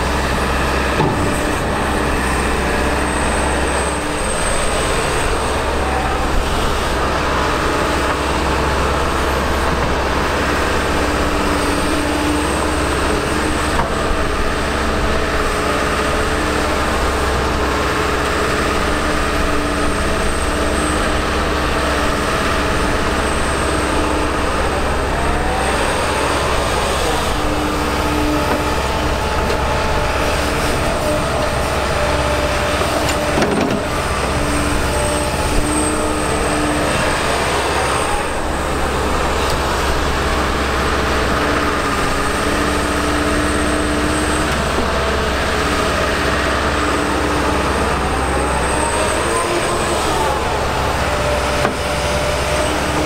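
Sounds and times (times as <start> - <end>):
excavator diesel engine: 0.0 - 53.0
hydraulics whining: 0.0 - 53.0.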